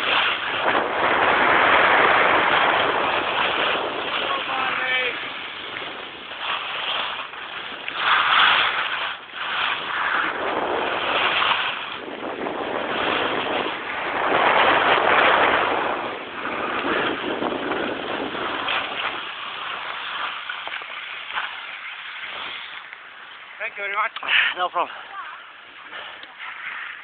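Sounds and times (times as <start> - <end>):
skis carving over packed snow: 0.0 - 27.0
wind rush: 0.0 - 27.0.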